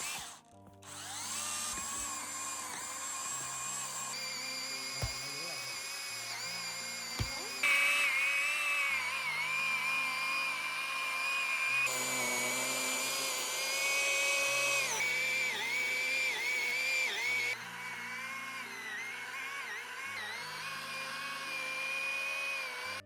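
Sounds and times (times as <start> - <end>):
light background music: 0.0 - 23.0
power saw cutting root: 0.0 - 23.0.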